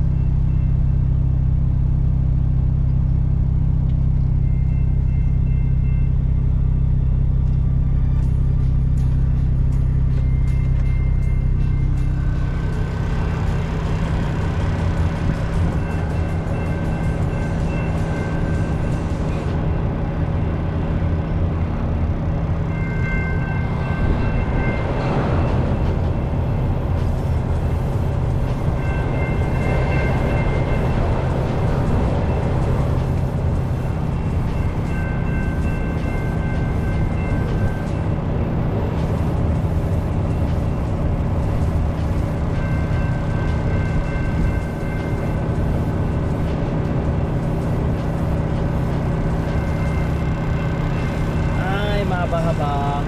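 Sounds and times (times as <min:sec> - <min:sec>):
freight train rolling past: 0:00.0 - 0:53.0
truck engine idling: 0:00.0 - 0:53.0.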